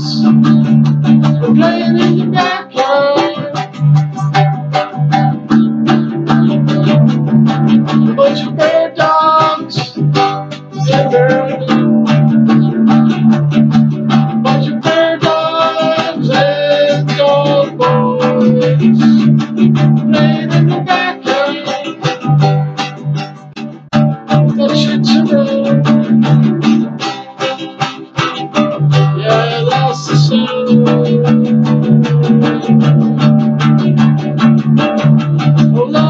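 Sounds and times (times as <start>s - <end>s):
guitar picked melody and chords: 0.0s - 36.0s.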